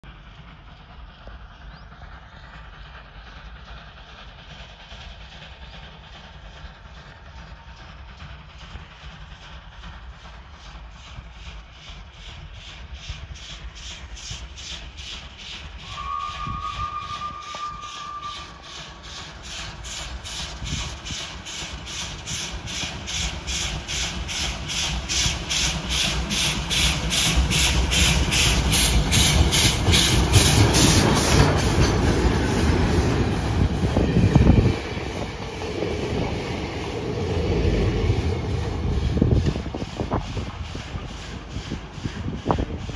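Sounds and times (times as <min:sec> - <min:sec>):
engine and wheels rumbling: 0:00.0 - 0:42.9
steam locomotive exhaust chuffing: 0:00.0 - 0:42.9.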